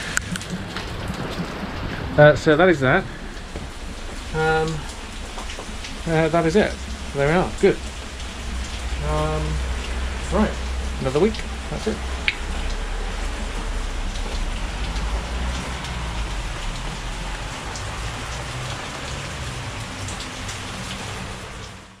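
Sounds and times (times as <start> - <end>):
rain splashing on wet ground: 0.0 - 22.0
water drips: 0.0 - 22.0.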